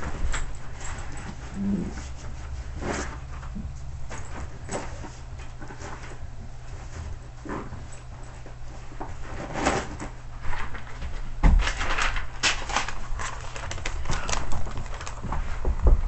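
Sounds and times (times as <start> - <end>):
knocks and rustles of handling: 0.0 - 16.0
steady low hum: 0.0 - 16.0.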